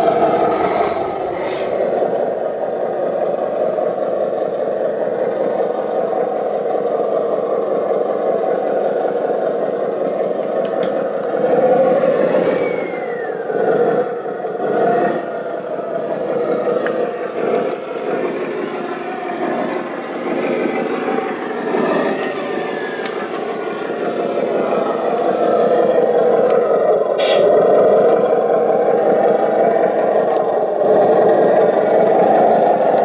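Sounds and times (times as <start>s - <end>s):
model machine whirring and rattling: 0.0s - 33.0s.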